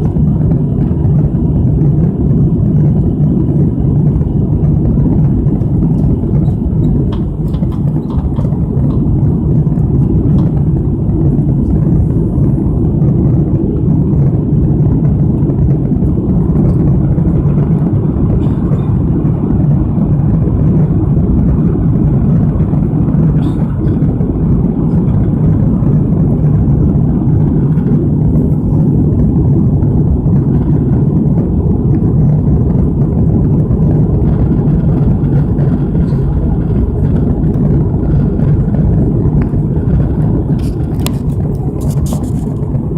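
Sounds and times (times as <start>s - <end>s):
jet engines droning: 0.0s - 42.9s
rushing air: 0.0s - 42.9s.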